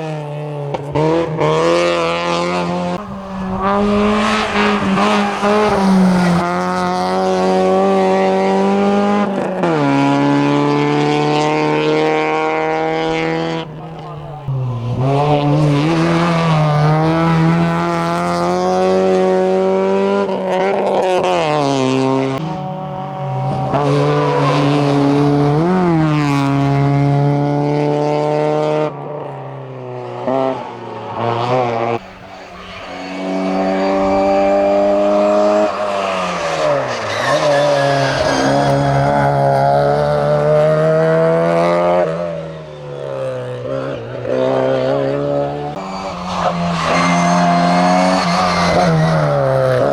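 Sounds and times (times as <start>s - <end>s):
race car engine accelerating: 0.0s - 49.9s
race car revs dropping for corner: 0.0s - 49.9s.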